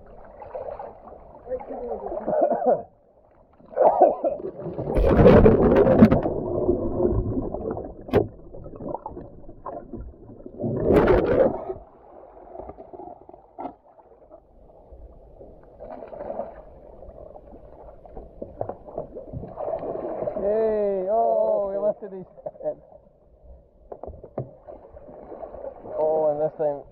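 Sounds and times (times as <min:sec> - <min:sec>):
water splashing around kayak: 0:00.0 - 0:21.7, 0:23.5 - 0:26.9.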